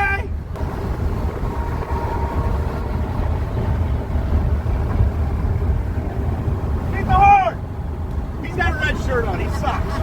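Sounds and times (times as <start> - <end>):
vehicle road and engine rumble: 0.0 - 10.0.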